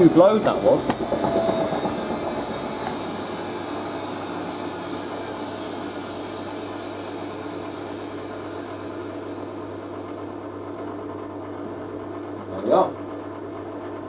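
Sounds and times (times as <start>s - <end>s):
washing machine drum whirring: 0.0s - 14.0s.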